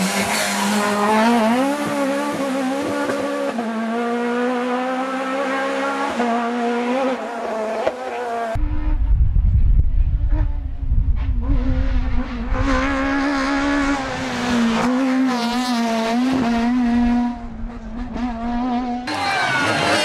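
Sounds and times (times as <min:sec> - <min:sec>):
car engine at high revs: 0:00.0 - 0:09.1, 0:10.2 - 0:20.0
car engine accelerating: 0:00.0 - 0:20.0.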